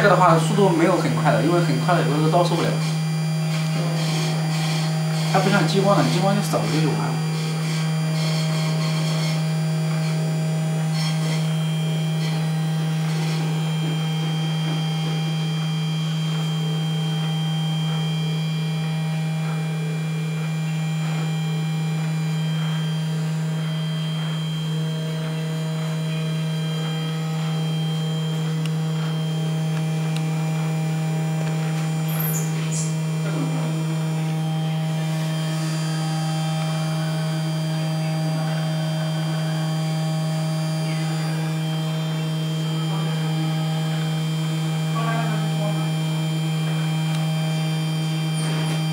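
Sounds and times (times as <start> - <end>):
spindle motor humming: 0.0 - 48.9
thin high motor tones: 0.0 - 48.9.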